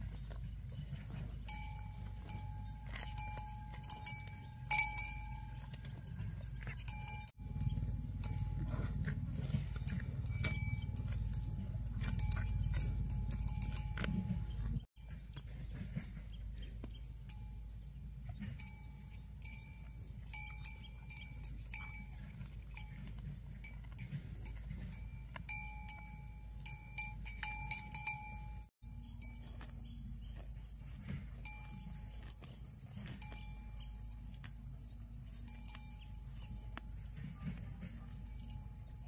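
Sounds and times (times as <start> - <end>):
small cowbell clinking: 0.0 - 15.2, 17.2 - 29.9, 30.9 - 39.0
low steady rumble: 0.0 - 39.0.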